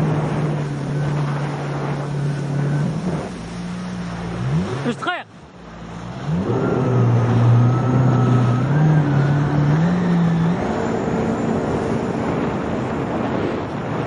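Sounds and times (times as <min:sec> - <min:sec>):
jet ski engine running: 0:00.0 - 0:14.0
water rushing noise: 0:00.0 - 0:14.0.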